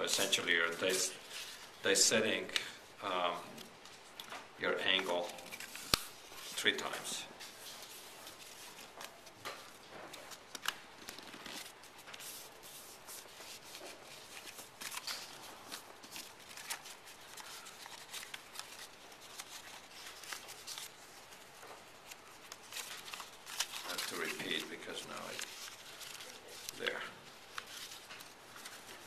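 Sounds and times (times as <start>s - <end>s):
paper rustling and crackling: 3.5s - 29.0s.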